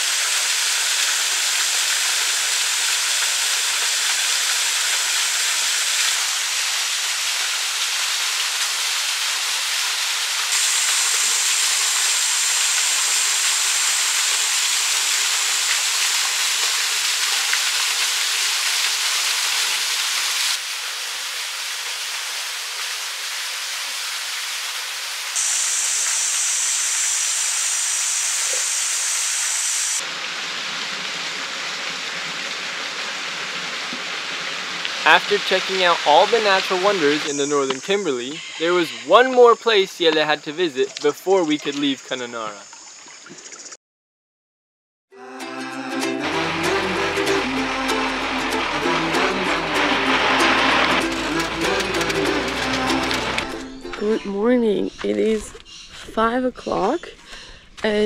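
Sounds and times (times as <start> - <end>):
waterfall pouring into pool: 0.0 - 43.5, 46.2 - 53.6.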